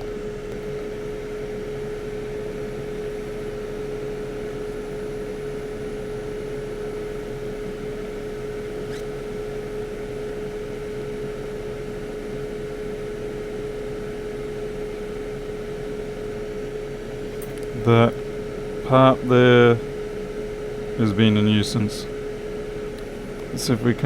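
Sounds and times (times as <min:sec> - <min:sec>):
hot-air blower whirring: 0:00.0 - 0:24.0.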